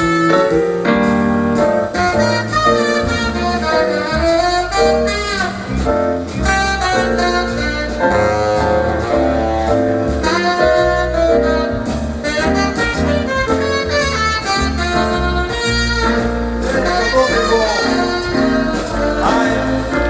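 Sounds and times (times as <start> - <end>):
drums with cymbals: 0.0 - 20.0
piano: 0.0 - 20.0
saxophone melody: 0.0 - 20.0
walking bass: 0.0 - 20.0.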